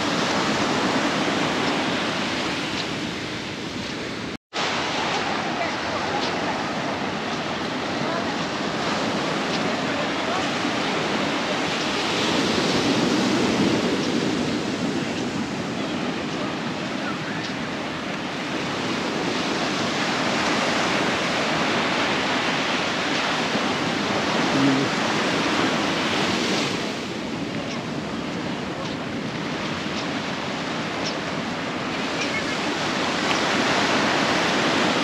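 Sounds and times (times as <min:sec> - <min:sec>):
sea surf breaking on beach: 0:00.0 - 0:35.0.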